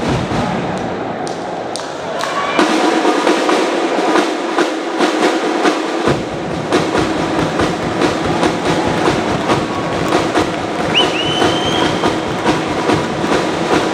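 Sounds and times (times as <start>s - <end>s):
deeper drum layer: 0.0s - 1.7s, 2.6s - 13.9s
crowd cheering: 0.0s - 5.0s, 6.7s - 13.9s
drums beating a rhythm: 2.6s - 13.9s.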